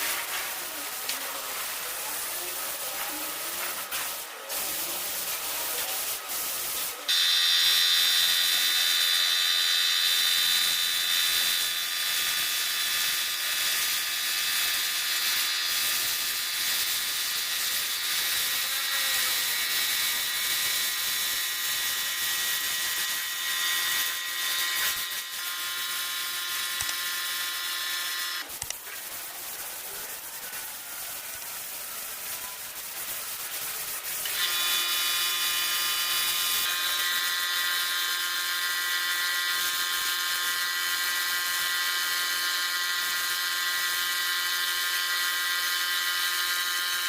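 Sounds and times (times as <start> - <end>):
electric spray gun running: 0.0 - 29.2, 29.8 - 47.0.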